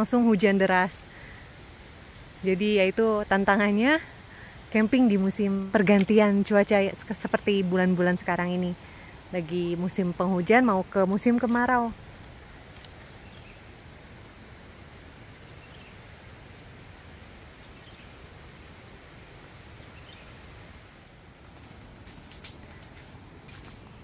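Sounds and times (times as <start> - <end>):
outdoor ambient hiss: 0.0 - 24.0.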